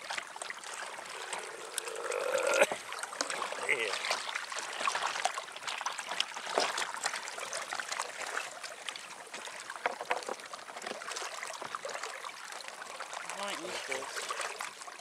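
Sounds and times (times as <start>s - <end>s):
water splashing along boat hull: 0.0s - 15.0s.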